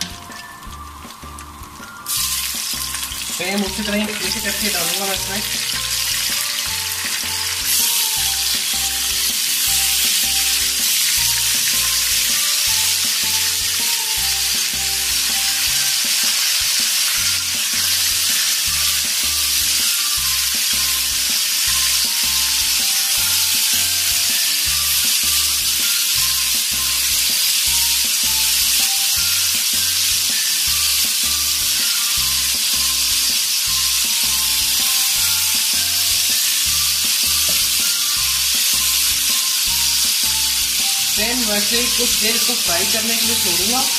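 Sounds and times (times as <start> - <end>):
background music with bass: 0.0 - 16.0, 16.6 - 43.9
chicken sizzling in oil: 0.0 - 43.9.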